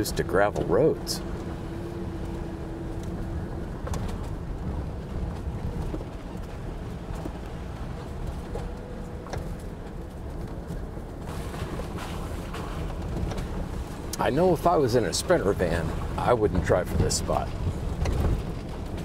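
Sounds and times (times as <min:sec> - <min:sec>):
vehicle engine and tyre rumble: 0:00.0 - 0:19.0.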